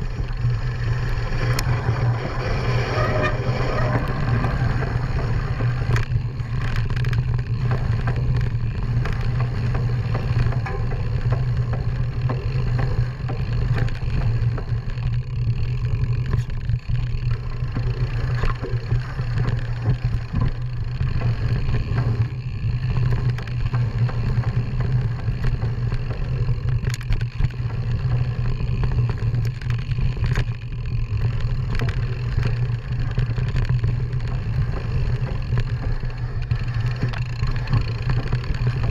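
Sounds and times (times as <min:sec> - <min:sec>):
steady low drone: 0:00.0 - 0:38.9.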